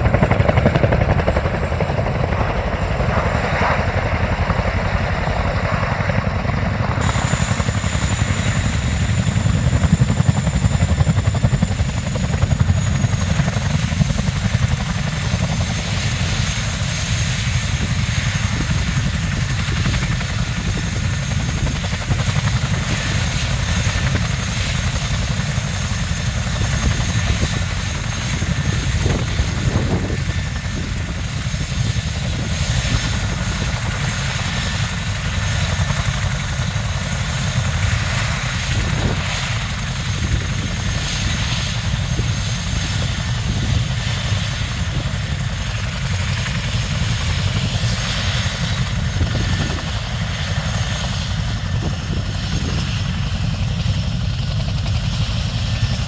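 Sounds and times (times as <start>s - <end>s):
helicopter rotor beat: 0.0s - 56.0s
turbine whine: 0.0s - 56.0s.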